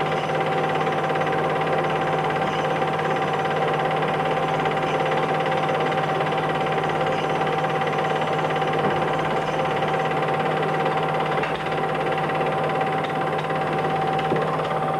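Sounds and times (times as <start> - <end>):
film projector whirring: 0.0 - 14.9.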